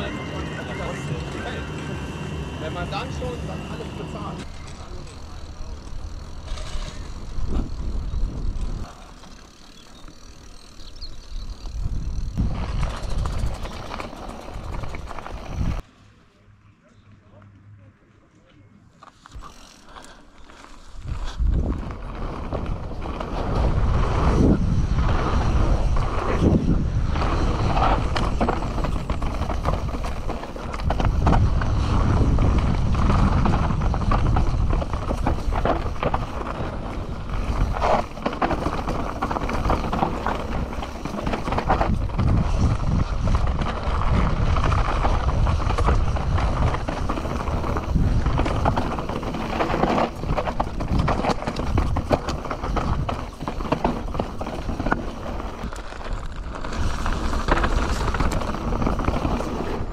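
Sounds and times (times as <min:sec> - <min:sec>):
bike tyres rumbling on dirt: 0:00.0 - 0:15.8, 0:19.1 - 0:59.9
bike rattling and clattering: 0:02.7 - 0:15.8, 0:19.0 - 0:59.9.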